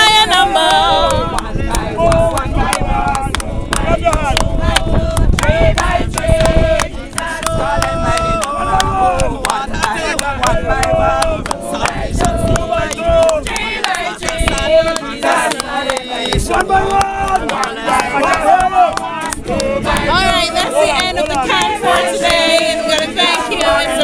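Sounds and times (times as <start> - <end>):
group singing: 0.0 - 24.0.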